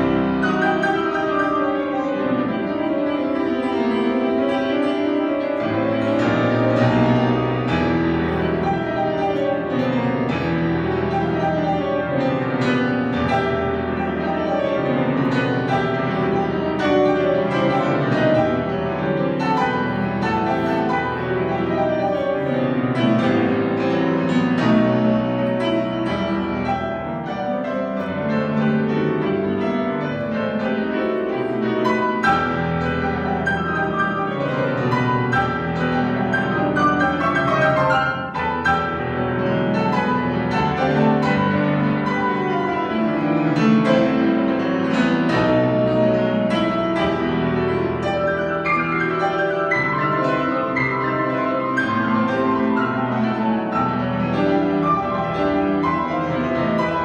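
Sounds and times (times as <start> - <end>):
classical piano music: 0.0 - 57.0.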